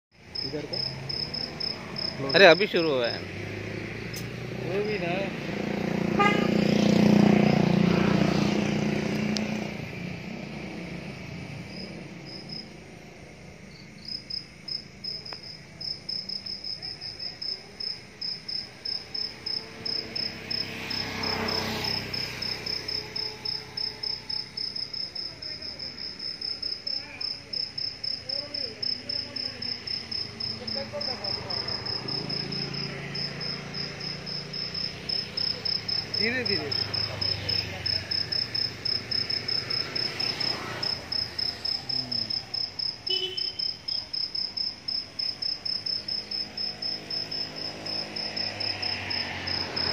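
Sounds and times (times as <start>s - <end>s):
cricket chirping: 0.2s - 49.9s.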